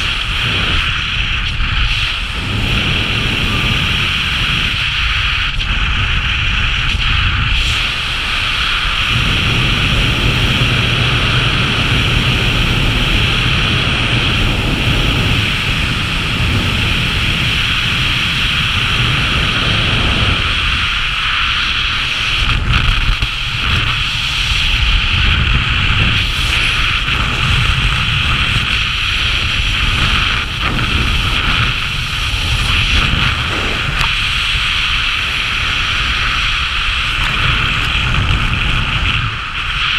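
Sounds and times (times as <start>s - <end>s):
air rushing over microphone: 0.0s - 39.9s
wind buffeting rumble: 0.0s - 39.9s.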